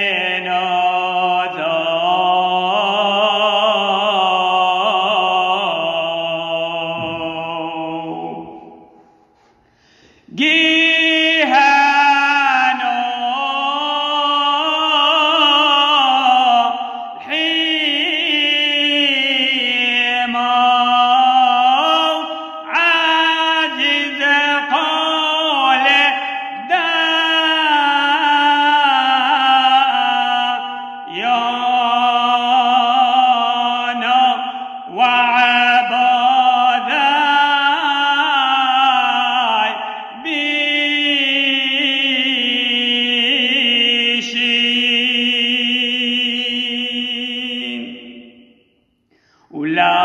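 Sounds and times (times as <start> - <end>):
man chanting a hymn: 0.0 - 8.8, 10.3 - 48.4.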